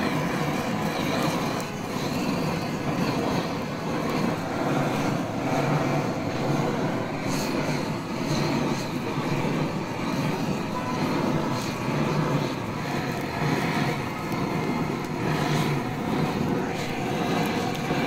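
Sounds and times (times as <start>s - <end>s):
cooking torch flame roaring: 0.0s - 18.0s.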